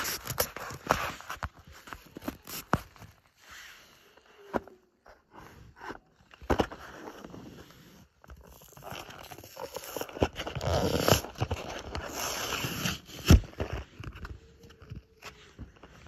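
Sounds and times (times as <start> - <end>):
handling noise rustling and crinkling: 0.0 - 16.0.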